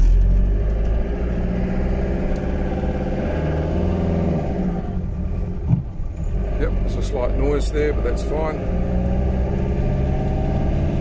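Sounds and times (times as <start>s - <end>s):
van engine revving: 0.0s - 11.0s.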